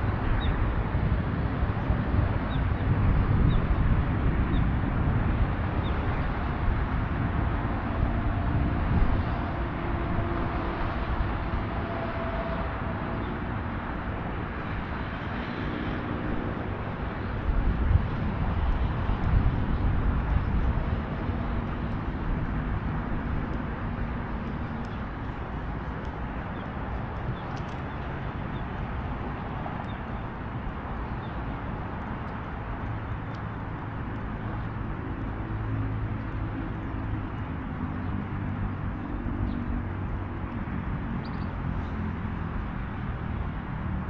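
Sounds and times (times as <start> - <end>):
faint engine hum: 0.0 - 44.0
vehicle traffic rumble: 0.0 - 44.0.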